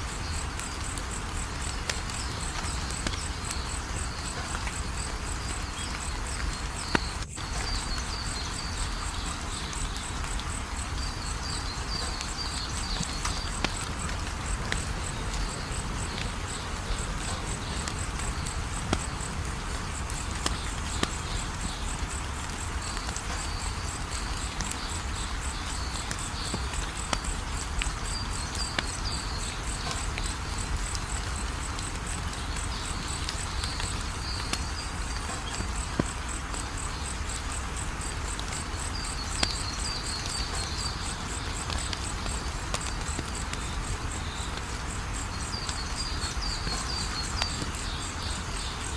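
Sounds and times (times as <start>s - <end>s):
insects chirping: 0.0s - 48.9s
wood fire crackling: 0.0s - 48.9s.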